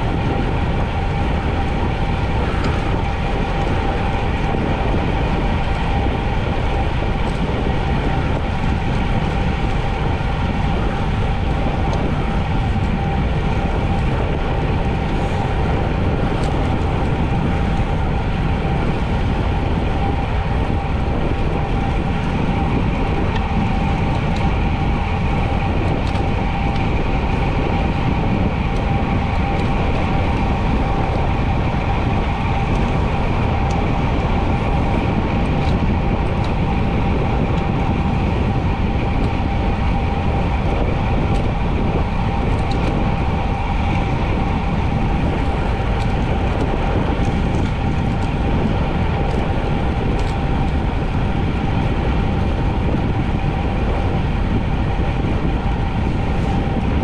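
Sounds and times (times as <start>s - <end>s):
thin whine: 0.0s - 57.0s
wind rushing over microphone: 0.0s - 57.0s.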